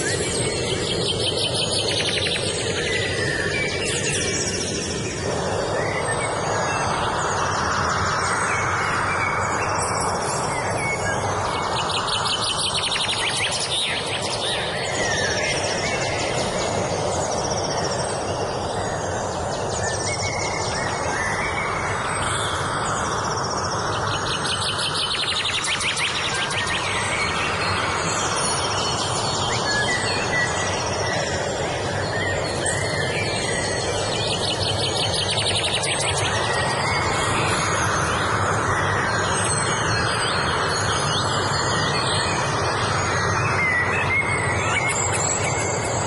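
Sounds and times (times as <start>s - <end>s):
songbirds chirping and trilling: 0.0s - 46.0s
steady rushing noise: 0.0s - 46.0s.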